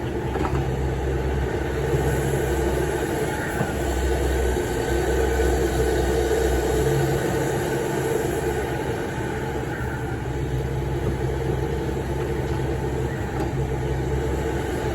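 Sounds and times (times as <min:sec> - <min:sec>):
diesel engines droning: 0:00.0 - 0:14.9.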